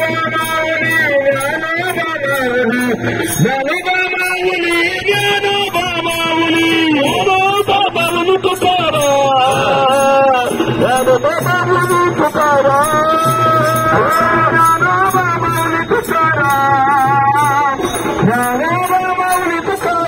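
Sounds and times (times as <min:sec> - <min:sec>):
devotional singing: 0:00.0 - 0:20.0
high clinking beat: 0:00.0 - 0:20.0.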